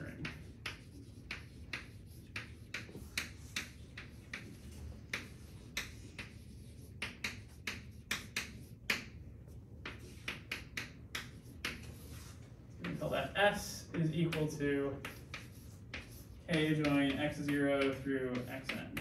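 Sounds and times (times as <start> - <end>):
chalk scratching on a chalkboard: 0.0 - 19.0
low room hum: 0.0 - 19.0.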